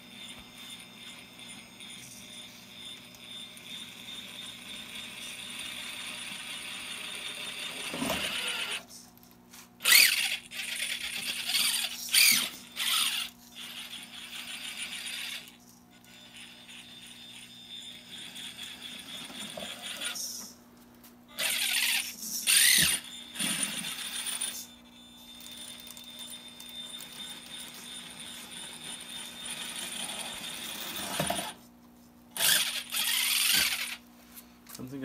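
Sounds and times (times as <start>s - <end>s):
faint steady whine: 0.0s - 35.0s
rc car motor and drivetrain: 0.1s - 8.9s, 9.8s - 20.5s, 21.4s - 24.7s, 25.3s - 31.6s, 32.4s - 34.0s.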